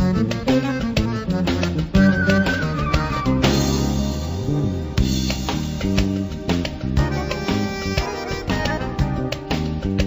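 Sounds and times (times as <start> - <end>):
music with drums and plucked strings: 0.0 - 10.0.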